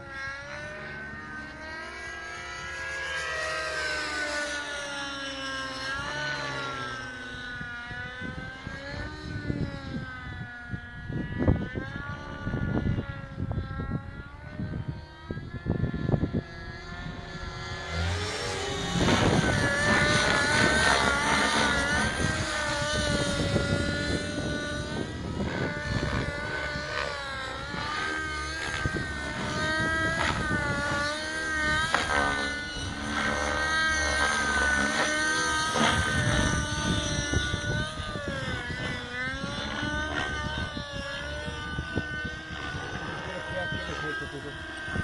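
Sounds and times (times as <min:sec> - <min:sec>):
model helicopter engine whine: 0:00.0 - 0:45.0.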